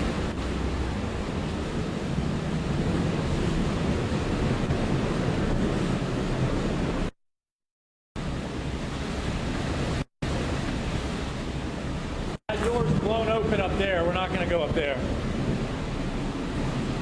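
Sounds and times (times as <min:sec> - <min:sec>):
strong wind blasting microphone: 0:00.0 - 0:07.1, 0:08.2 - 0:17.0.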